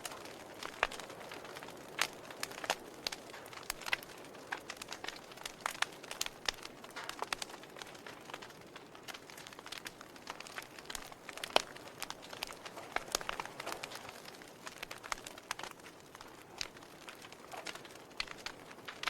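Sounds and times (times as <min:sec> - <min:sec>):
soft fire hiss: 0:00.0 - 0:19.0
wood fire crackling and popping: 0:00.0 - 0:19.0.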